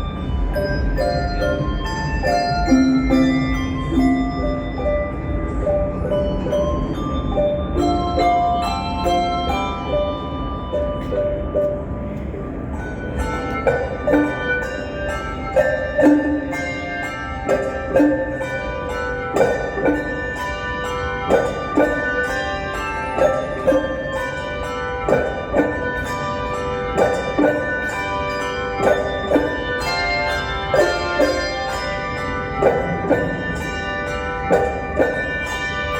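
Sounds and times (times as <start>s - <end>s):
handbell choir playing: 0.0s - 35.9s.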